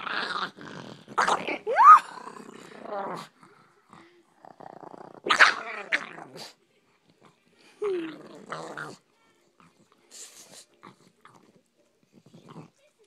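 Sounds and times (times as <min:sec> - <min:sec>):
dog growling and snarling: 0:00.0 - 0:06.6, 0:07.2 - 0:10.0, 0:10.6 - 0:13.0.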